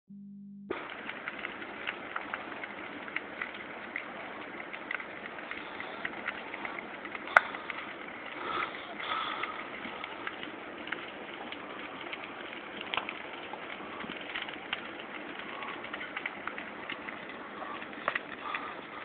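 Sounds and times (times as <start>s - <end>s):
fire rushing and crackling: 0.7s - 19.0s.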